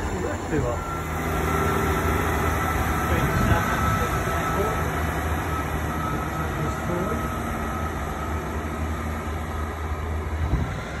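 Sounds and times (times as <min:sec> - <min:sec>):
diesel engine droning: 0:00.0 - 0:11.0
train wheels rumbling on rails: 0:00.0 - 0:11.0.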